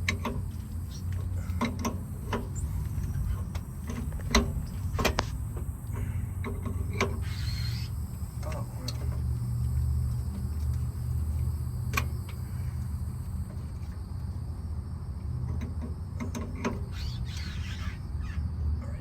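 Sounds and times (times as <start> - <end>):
sharp clicks of engine parts: 0.0 - 7.5, 8.1 - 14.0, 15.4 - 17.3.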